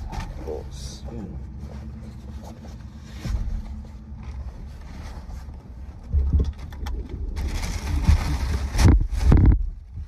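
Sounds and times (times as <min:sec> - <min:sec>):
low rumble: 0:00.0 - 0:10.0
bags rustling: 0:01.5 - 0:10.0.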